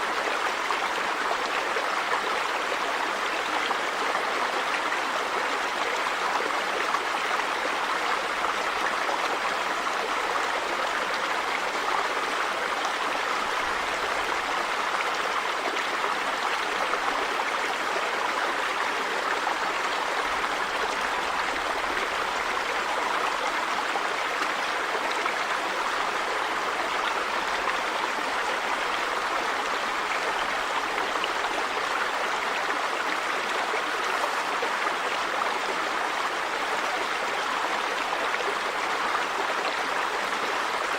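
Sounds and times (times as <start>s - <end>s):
river water over stones: 0.0s - 40.9s.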